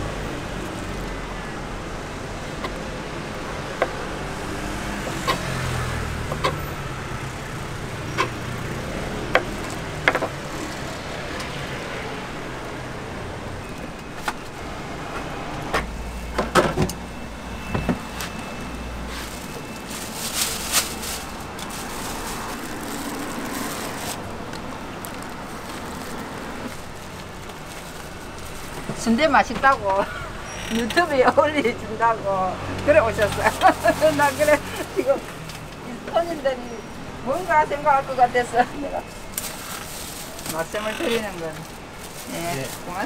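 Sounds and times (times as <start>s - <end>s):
street traffic noise: 0.0s - 43.0s.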